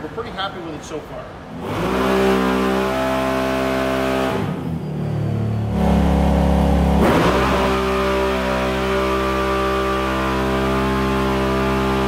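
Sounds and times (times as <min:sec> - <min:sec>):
engine running hard: 0:01.5 - 0:12.0.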